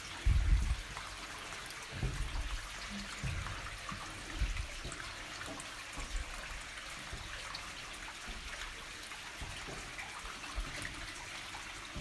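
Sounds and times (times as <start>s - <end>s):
water trickling: 0.0s - 12.0s
boots knocking on wooden rungs: 0.2s - 0.9s, 1.9s - 11.2s.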